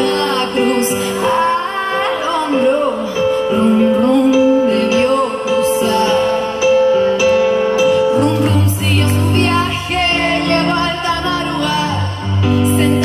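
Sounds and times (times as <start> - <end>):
live pop band playing: 0.0 - 13.0
woman singing: 0.0 - 13.0.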